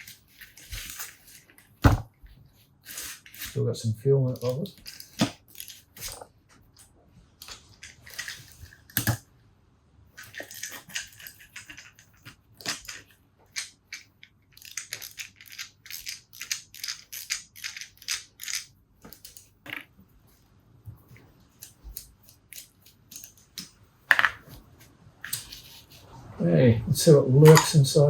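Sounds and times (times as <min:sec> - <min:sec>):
small parts clicking and scraping: 0:00.0 - 0:01.8, 0:02.5 - 0:03.6, 0:04.3 - 0:09.3, 0:10.1 - 0:20.4, 0:21.1 - 0:24.6, 0:25.2 - 0:26.1.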